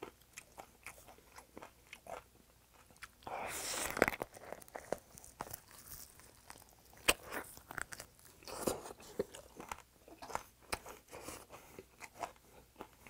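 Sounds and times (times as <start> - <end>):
chewing and crunching sandwich: 0.0 - 13.0.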